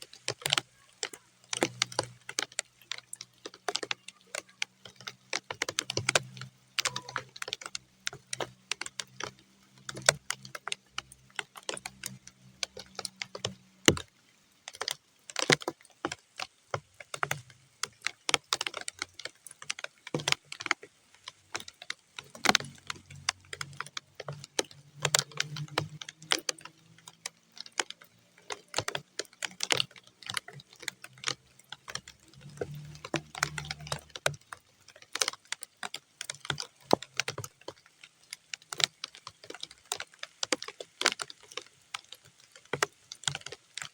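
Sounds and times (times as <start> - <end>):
raindrops hitting muddy ground: 0.0 - 43.9.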